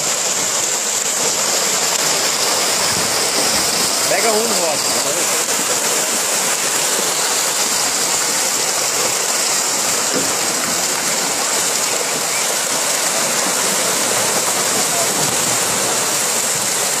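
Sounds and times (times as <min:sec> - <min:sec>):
fish splashing in water: 0:00.0 - 0:17.0.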